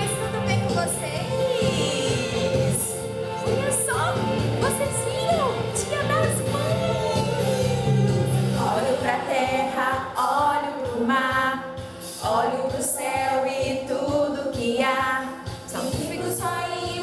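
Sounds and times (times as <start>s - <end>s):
song with singing over beat: 0.0s - 17.0s.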